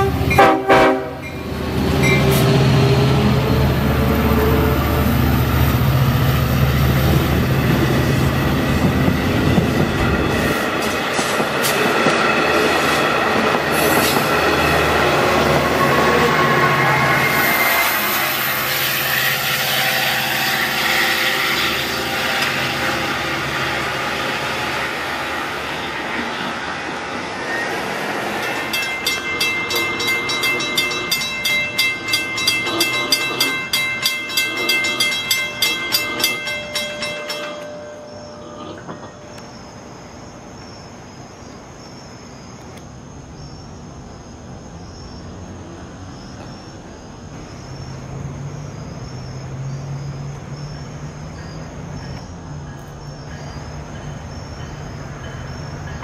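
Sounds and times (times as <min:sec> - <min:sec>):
diesel train passing: 0:00.0 - 0:56.0
crickets chirping: 0:01.2 - 0:56.0.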